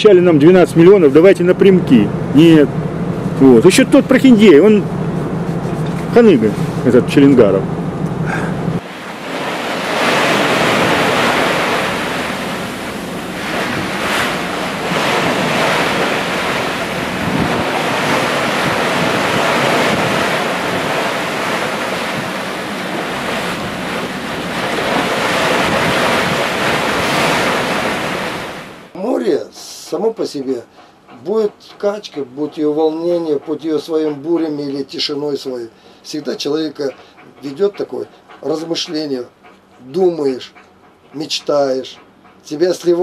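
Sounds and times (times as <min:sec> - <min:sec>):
ocean waves washing: 0:00.0 - 0:43.0
wind: 0:00.0 - 0:43.0.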